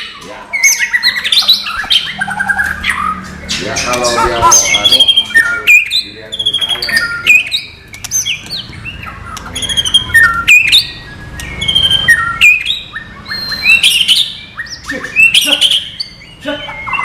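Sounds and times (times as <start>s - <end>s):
bird singing whistles and chirps: 0.0s - 17.0s.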